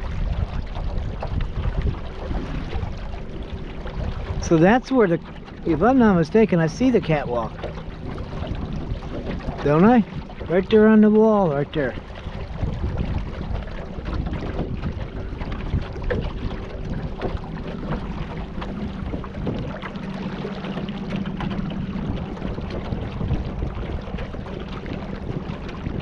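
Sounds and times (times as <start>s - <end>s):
steady low hum: 0.0s - 26.0s
water splashing around kayak: 0.0s - 26.0s
wind buffeting microphone: 0.0s - 26.0s.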